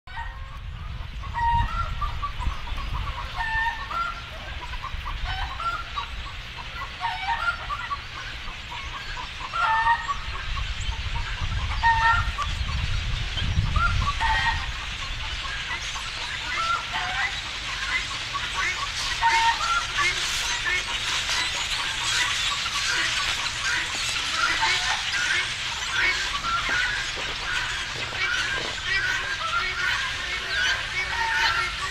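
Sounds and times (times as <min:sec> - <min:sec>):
many birds calling: 0:00.1 - 0:31.9.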